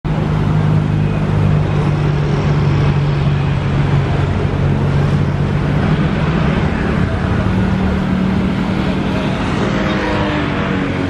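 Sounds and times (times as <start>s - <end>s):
steady engine drone: 0.0s - 11.0s.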